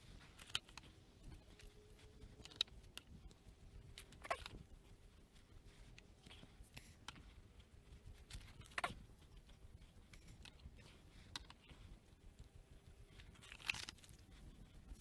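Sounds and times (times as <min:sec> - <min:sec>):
light clicks and rustles: 0:00.0 - 0:15.0.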